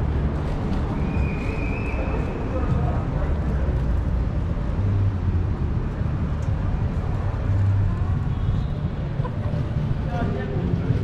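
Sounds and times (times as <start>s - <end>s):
faint voices of passers-by: 0.0s - 11.0s
low rumble of traffic: 0.0s - 11.0s.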